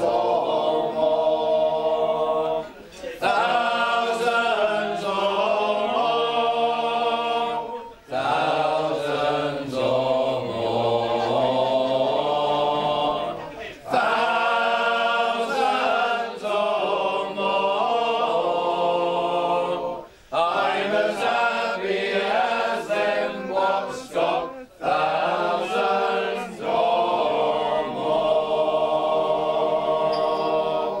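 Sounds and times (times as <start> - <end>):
group singing a folk song: 0.0 - 31.0.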